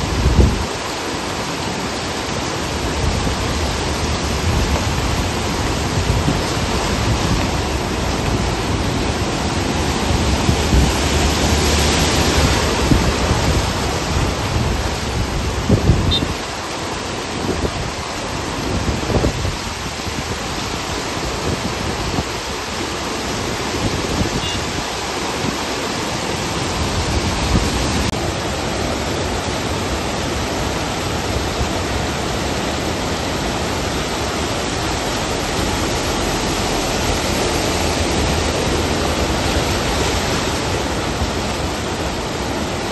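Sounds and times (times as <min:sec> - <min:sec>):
falling rain: 0:00.0 - 0:42.9
floodwater rushing: 0:00.0 - 0:42.9.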